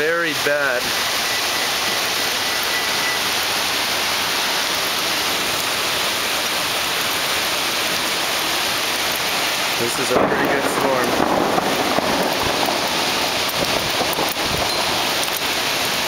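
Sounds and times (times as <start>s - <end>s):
rain and hail falling: 0.0s - 16.0s.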